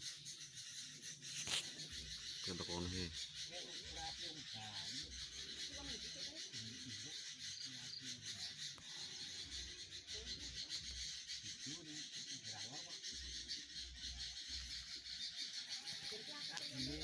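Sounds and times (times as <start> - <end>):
flock of small birds chattering: 0.0 - 17.0.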